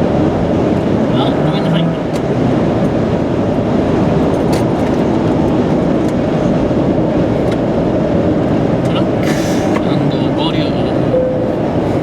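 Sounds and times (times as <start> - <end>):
tyre rumble and engine: 0.0 - 12.0.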